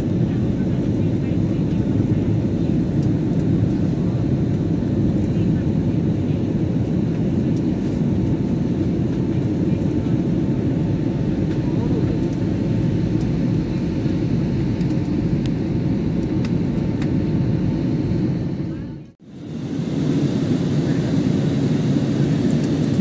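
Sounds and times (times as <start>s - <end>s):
airliner cabin low rumble: 0.0s - 23.0s.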